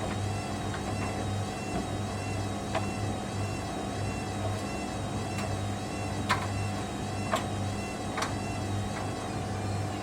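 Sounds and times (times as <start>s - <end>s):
washing machine motor hum: 0.0s - 10.0s.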